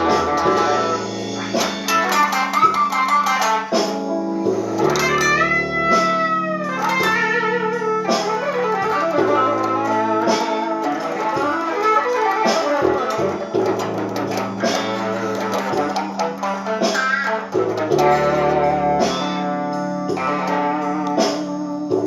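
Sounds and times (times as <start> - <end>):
electric guitar playing slow blues: 0.0 - 22.0.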